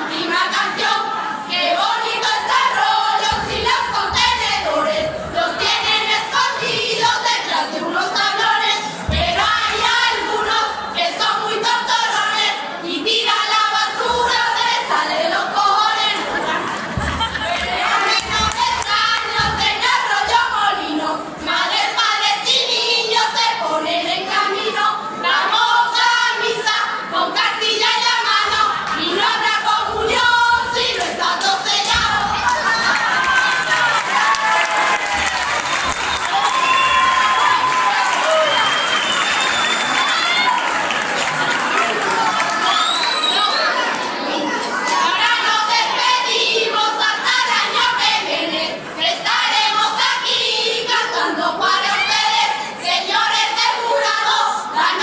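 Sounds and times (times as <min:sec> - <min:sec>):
women singing in chorus: 0:00.0 - 0:36.6, 0:42.4 - 0:55.0.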